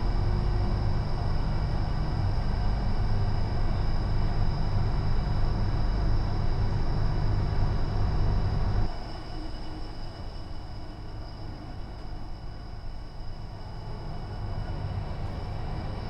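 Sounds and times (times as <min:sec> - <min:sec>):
high-pitched whine: 0:00.0 - 0:16.0
train wheels rumbling on track: 0:00.0 - 0:16.0.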